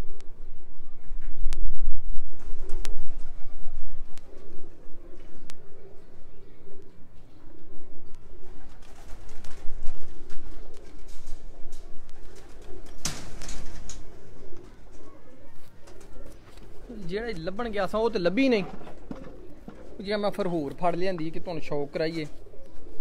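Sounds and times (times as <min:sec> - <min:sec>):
pigeons cooing: 0:02.2 - 0:23.0.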